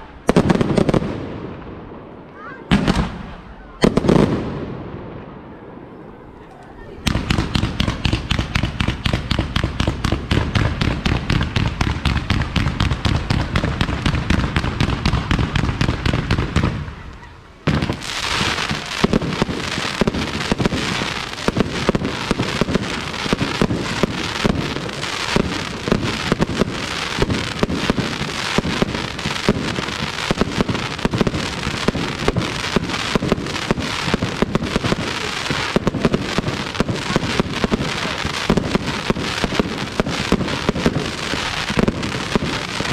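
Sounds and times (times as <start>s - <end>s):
fireworks bangs and crackle: 0.0s - 42.9s.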